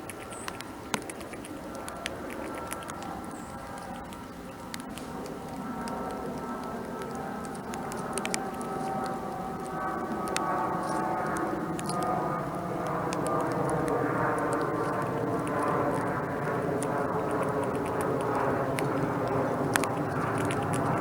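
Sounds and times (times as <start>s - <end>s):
airplane engine drone: 0.0s - 21.0s
light ticks: 0.0s - 21.0s.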